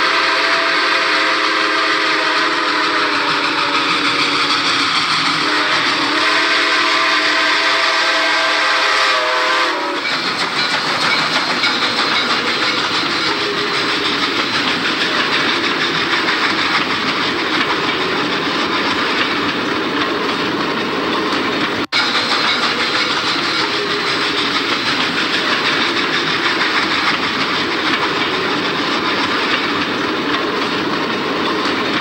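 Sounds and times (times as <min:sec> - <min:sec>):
train wheels rushing on rails: 0:00.0 - 0:32.0.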